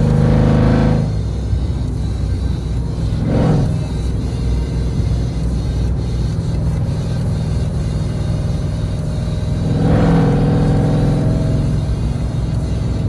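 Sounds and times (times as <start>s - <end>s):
car exhaust drone: 0.0s - 13.0s.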